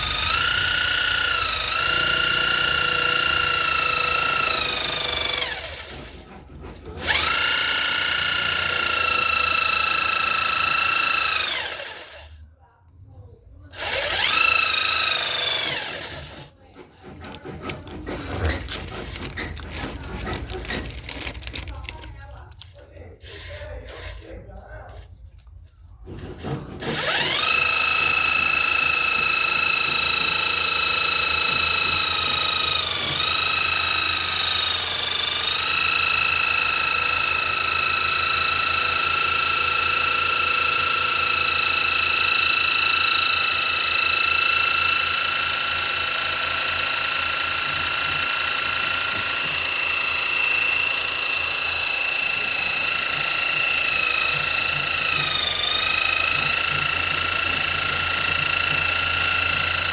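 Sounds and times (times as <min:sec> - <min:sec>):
small electric motor whining: 0:00.0 - 0:12.4, 0:13.7 - 0:16.5, 0:26.1 - 0:59.9.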